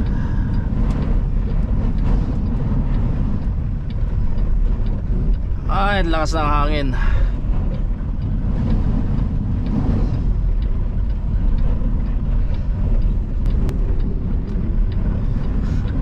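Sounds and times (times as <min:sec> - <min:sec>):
truck cab rumble and wind buffeting: 0:00.0 - 0:16.0.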